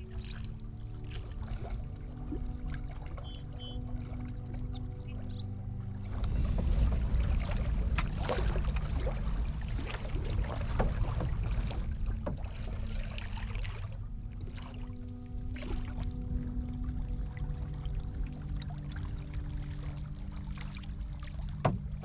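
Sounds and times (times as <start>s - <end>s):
paddle strokes splashing: 0.0s - 22.0s
soft music: 0.0s - 22.0s
water slapping hull: 0.0s - 22.0s
wind rumble on microphone: 0.0s - 22.0s.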